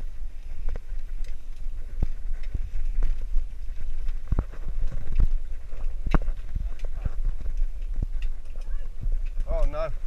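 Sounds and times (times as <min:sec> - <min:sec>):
bicycle basket rattling: 0:00.0 - 0:10.0
wind and road rumble: 0:00.0 - 0:10.0.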